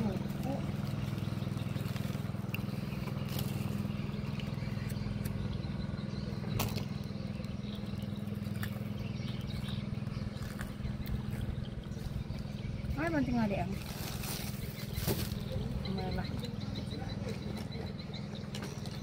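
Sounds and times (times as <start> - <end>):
small engine droning: 0.0 - 19.0.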